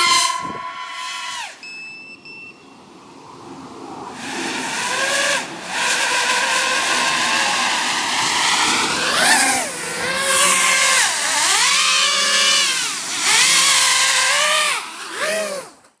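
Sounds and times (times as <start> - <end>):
quadcopter motors whining: 0.0 - 2.0, 3.4 - 16.0.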